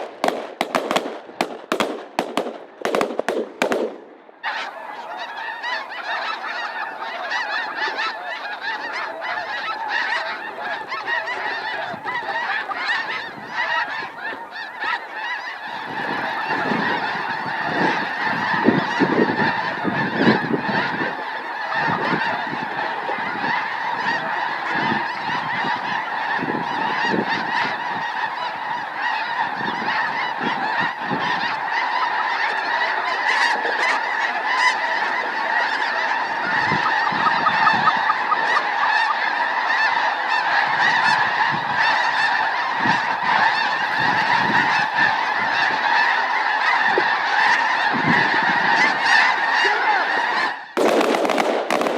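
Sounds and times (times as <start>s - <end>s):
flock of geese honking: 0.0s - 51.9s.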